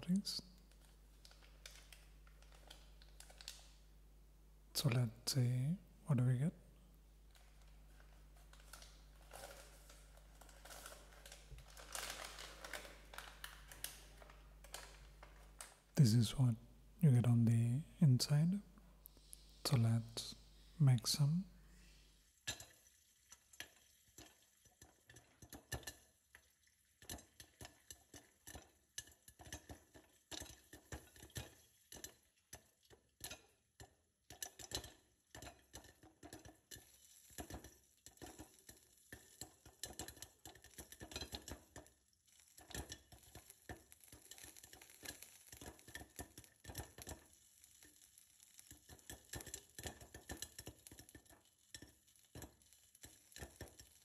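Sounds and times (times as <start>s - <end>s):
popcorn popping in a pot: 0.0s - 4.0s, 7.2s - 16.0s, 22.4s - 54.0s.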